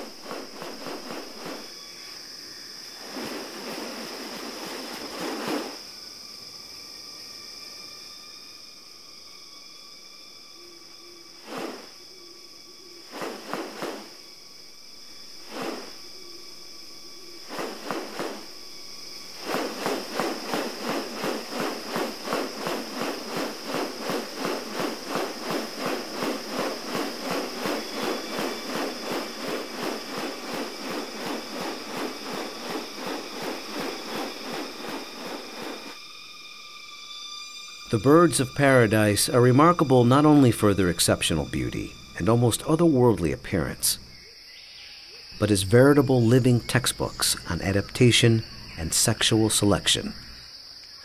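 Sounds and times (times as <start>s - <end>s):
high insect drone: 0.0s - 51.0s.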